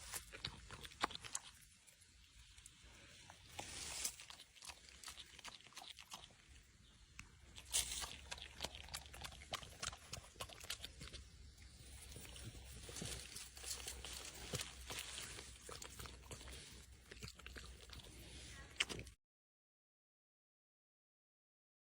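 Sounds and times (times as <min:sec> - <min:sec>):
dog chewing and crunching: 0:00.0 - 0:19.2.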